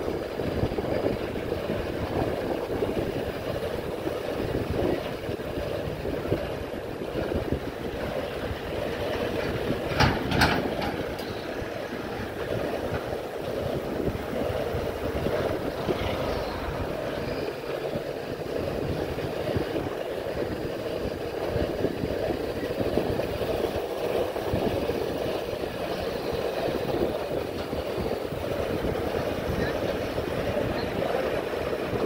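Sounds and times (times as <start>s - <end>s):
rushing noise of bike ride: 0.0s - 32.0s
wind buffeting microphone: 0.0s - 32.0s.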